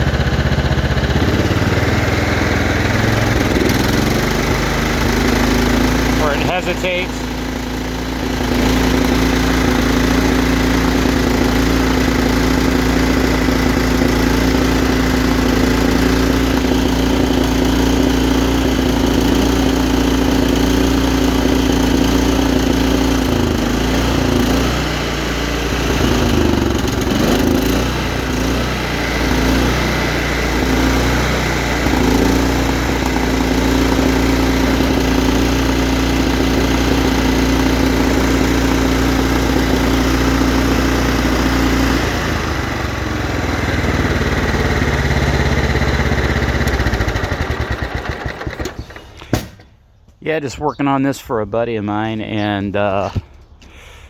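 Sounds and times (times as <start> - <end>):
small engine running unevenly: 0.0 - 49.8.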